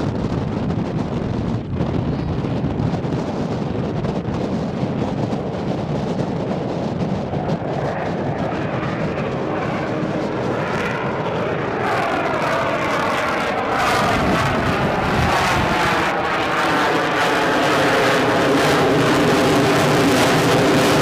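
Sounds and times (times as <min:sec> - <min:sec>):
aircraft rumble and whoosh: 0:00.0 - 0:21.0.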